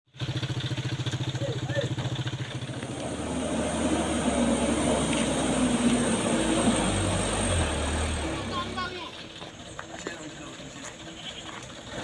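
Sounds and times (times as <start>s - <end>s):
diesel truck engine under load: 0.1s - 12.0s.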